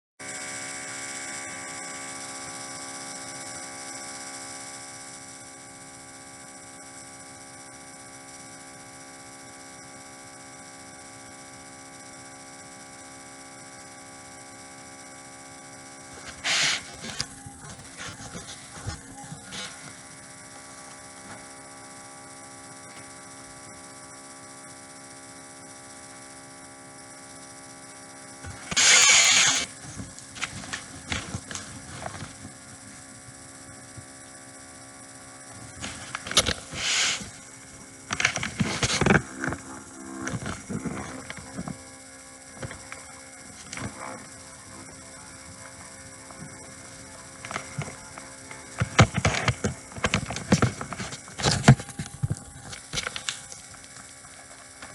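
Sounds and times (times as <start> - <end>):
steady hum of held tones: 0.2 - 54.9.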